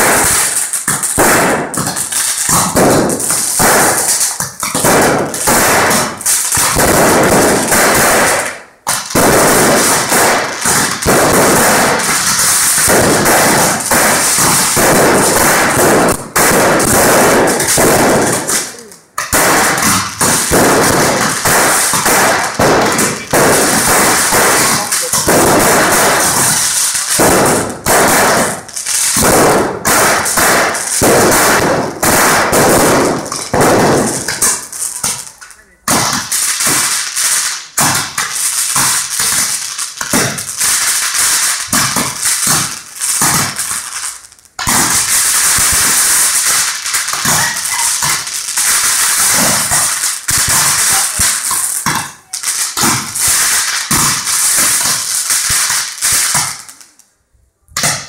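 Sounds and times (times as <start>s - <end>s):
fireworks crackling and popping: 0.0s - 58.0s.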